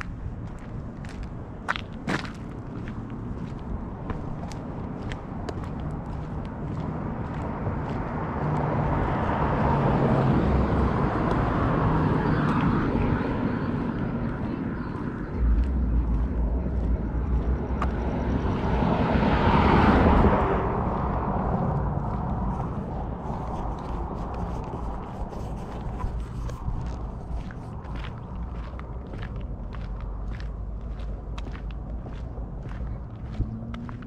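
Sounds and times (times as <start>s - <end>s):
road traffic passing: 0.0s - 34.0s.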